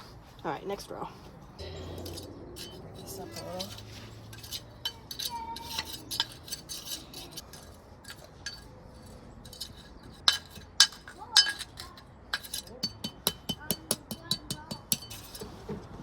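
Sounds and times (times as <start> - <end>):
concrete pavers clinking: 0.0 - 16.0.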